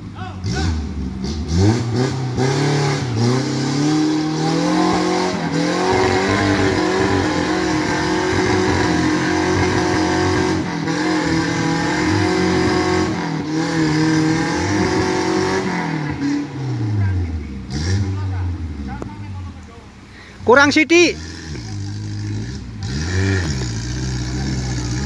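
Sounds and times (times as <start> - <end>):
off-road engine revving hard: 0.0 - 19.1, 20.5 - 25.0.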